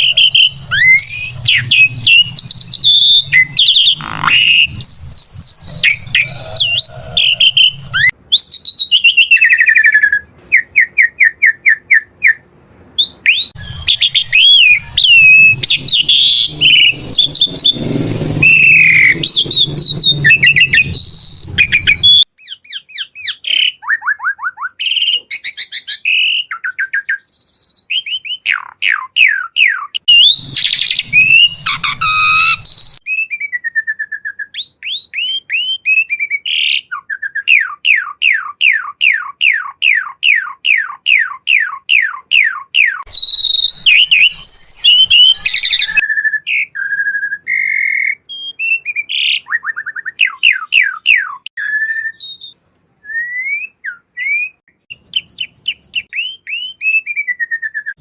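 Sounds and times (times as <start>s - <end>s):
starling singing: 0.0s - 33.0s, 34.6s - 52.5s.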